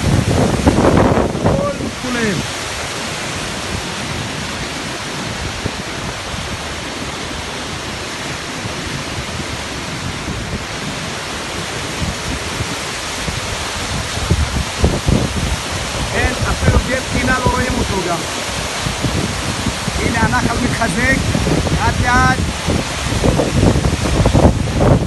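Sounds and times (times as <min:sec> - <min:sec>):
floodwater roaring: 0:00.0 - 0:25.0.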